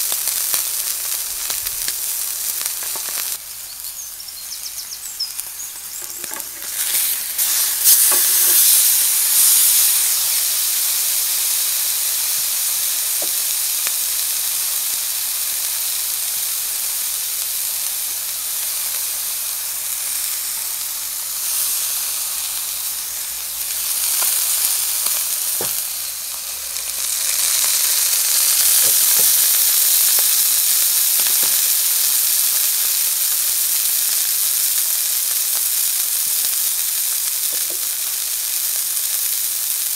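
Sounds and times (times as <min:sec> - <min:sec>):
fat popping and crackling: 0:00.0 - 0:39.9
steak sizzling in pan: 0:00.0 - 0:39.9.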